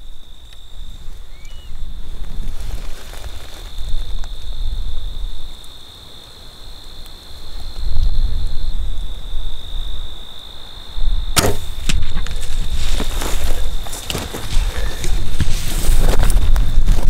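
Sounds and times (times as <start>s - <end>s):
wind rumble on microphone: 0.0s - 5.7s, 7.4s - 17.0s
insects trilling: 0.0s - 17.0s.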